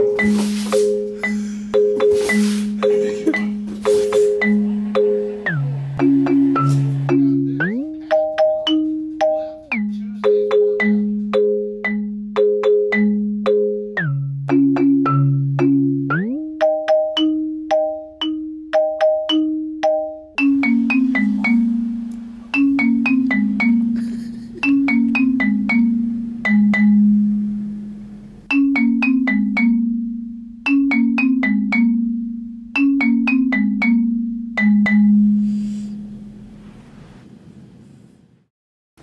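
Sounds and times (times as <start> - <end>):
light background music tune: 0.0 - 36.5.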